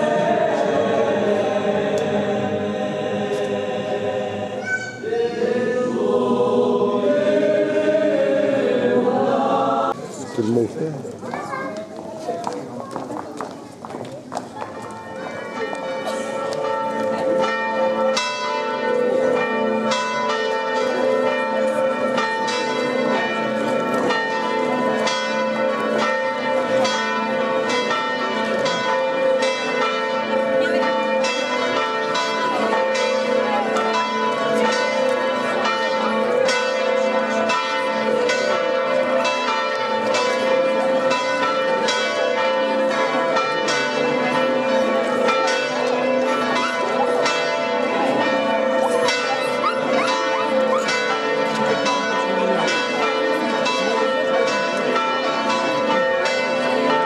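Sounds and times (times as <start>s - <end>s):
church bells ringing: 0.0s - 10.0s, 14.6s - 57.0s.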